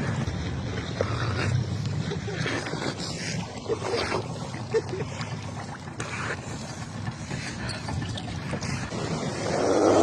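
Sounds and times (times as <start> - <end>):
small boat engine rumble: 0.0 - 10.0.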